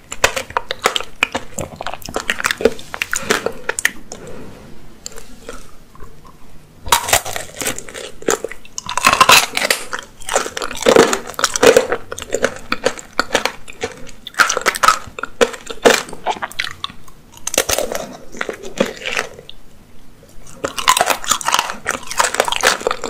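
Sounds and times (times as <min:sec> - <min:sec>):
crunchy candy chewing: 0:00.0 - 0:04.3, 0:05.0 - 0:19.6, 0:20.3 - 0:23.0.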